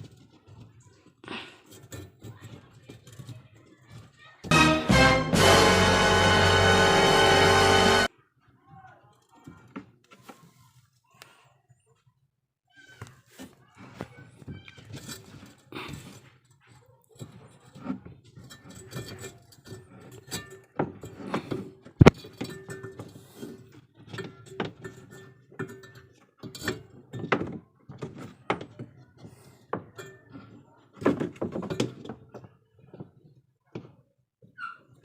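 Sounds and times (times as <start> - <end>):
knocks and clatter of machine parts: 0.0 - 4.5, 8.6 - 10.6, 12.9 - 35.0.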